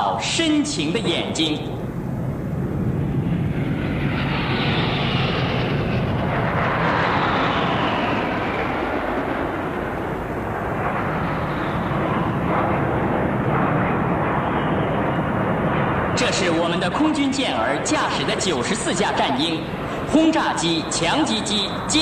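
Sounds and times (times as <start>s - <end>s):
jet aircraft flying low overhead: 0.0s - 22.0s.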